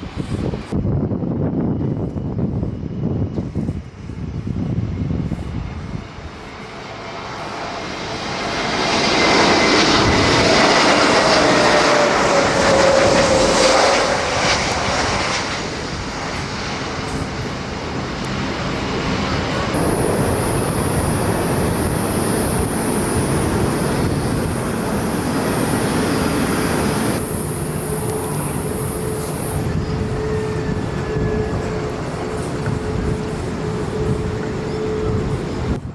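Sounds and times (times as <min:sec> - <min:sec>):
jet airliner passing overhead: 0:00.0 - 0:35.9
jet engines of taxiing airliner: 0:00.0 - 0:35.9.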